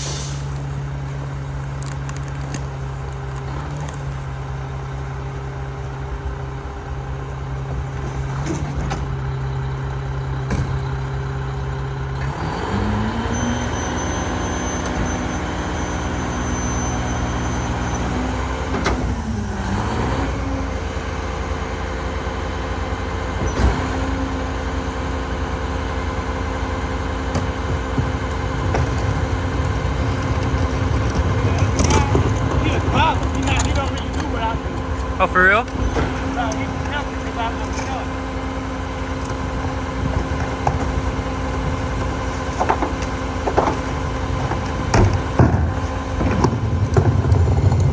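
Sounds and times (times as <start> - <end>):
garbage truck diesel engine revving: 0.0 - 47.9.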